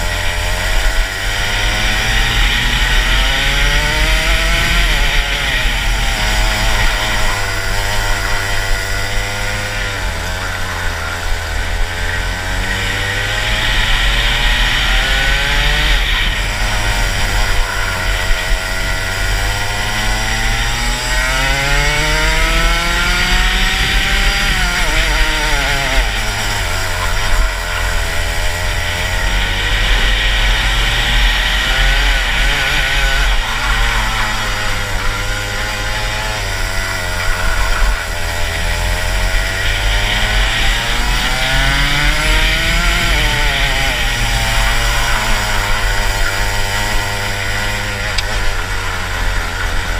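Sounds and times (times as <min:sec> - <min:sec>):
kart engine revving: 0:00.0 - 0:49.9.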